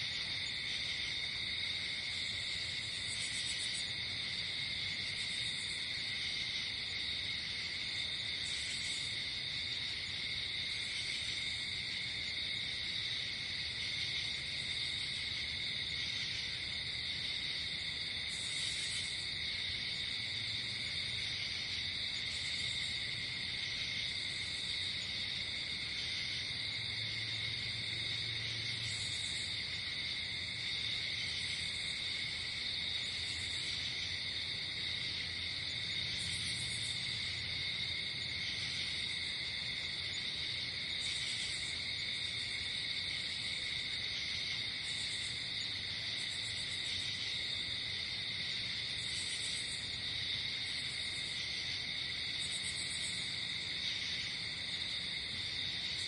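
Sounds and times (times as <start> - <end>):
crickets trilling: 0.0 - 56.0
high-pitched insect call: 5.0 - 56.0.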